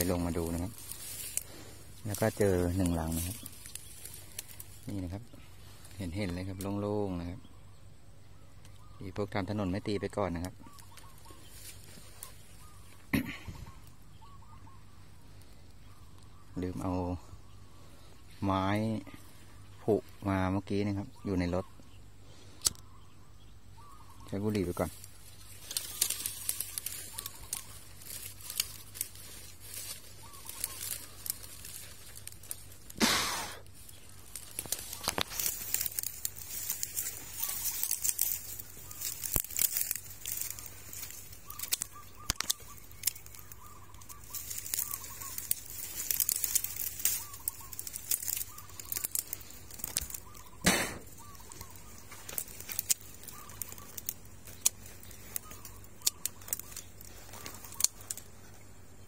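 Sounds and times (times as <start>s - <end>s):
faint bird calls: 0.0s - 59.0s
leaves and twigs rustling: 0.0s - 59.0s.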